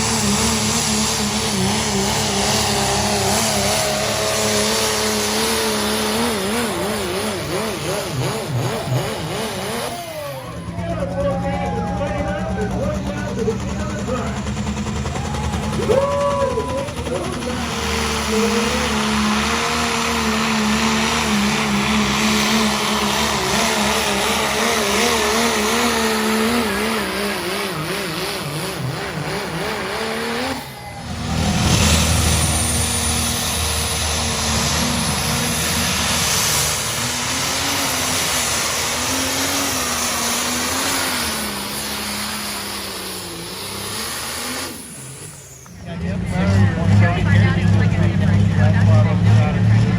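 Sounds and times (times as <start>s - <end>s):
truck engine running under load: 0.0s - 49.9s.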